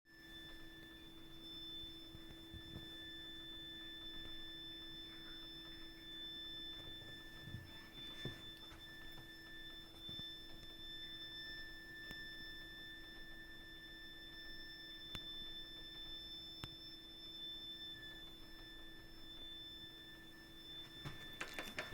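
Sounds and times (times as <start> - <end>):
shrill whistle from heating pipes: 0.1 - 21.9.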